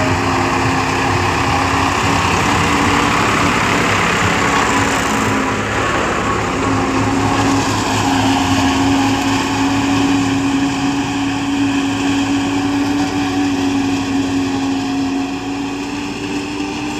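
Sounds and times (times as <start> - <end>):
harvester cutter whine: 0.0 - 16.9
tractor engine under load: 0.0 - 16.9.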